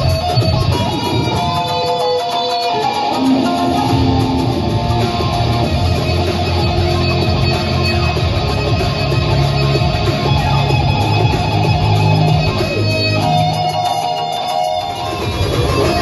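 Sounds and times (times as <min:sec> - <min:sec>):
guitar held melodic notes: 0:00.0 - 0:16.0
phonk backing track with heavy bass: 0:00.0 - 0:16.0.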